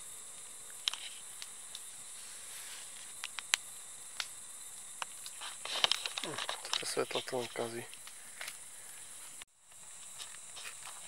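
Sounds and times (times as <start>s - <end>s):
night insects hissing: 0.0s - 11.0s.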